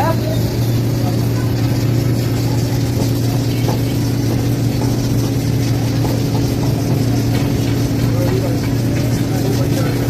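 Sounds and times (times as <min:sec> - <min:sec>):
low mechanical hum of machine: 0:00.0 - 0:10.0.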